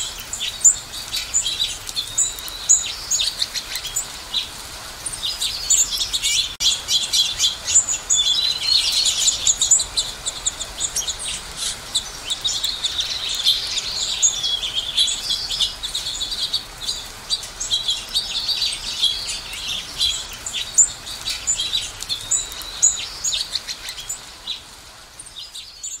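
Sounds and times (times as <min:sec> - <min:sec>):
finches chirping and twittering: 0:00.2 - 0:24.6.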